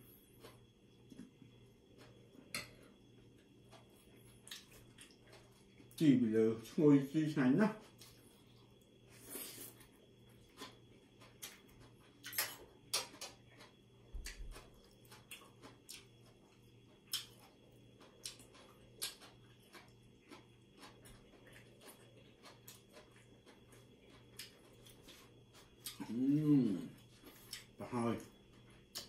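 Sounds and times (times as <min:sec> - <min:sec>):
man chewing food: 0:00.0 - 0:07.0, 0:07.8 - 0:29.0.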